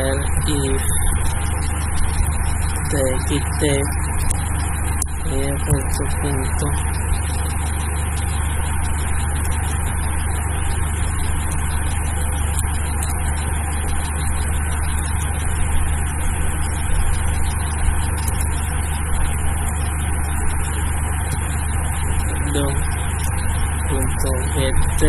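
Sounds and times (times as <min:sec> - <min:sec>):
constant hiss: 0:00.0 - 0:25.0
low hum: 0:00.0 - 0:25.0.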